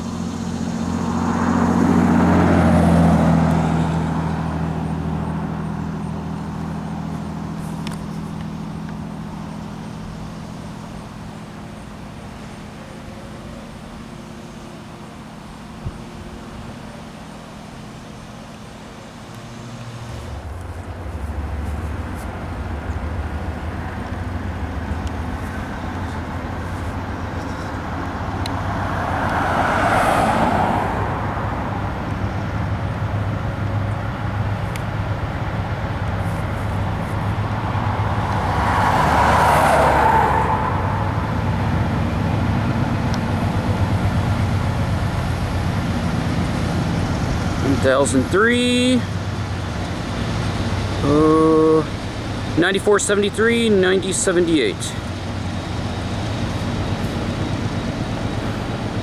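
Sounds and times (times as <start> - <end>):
low engine rumble: 0.0 - 59.0
road vehicles passing by: 0.0 - 59.0.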